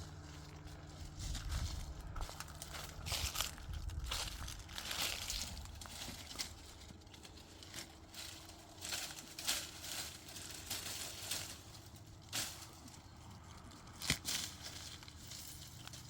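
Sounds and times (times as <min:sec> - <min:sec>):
rustling and scraping strokes: 0:00.0 - 0:16.0.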